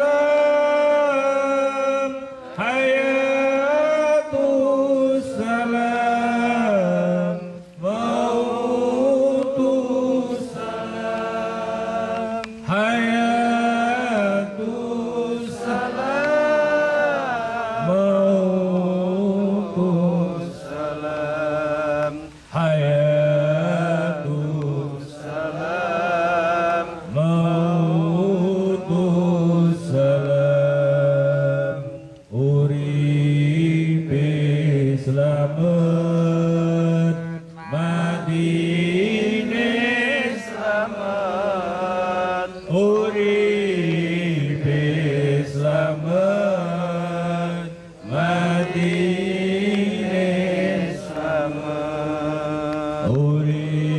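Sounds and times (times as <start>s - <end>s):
man chanting into a microphone: 0.0s - 53.9s.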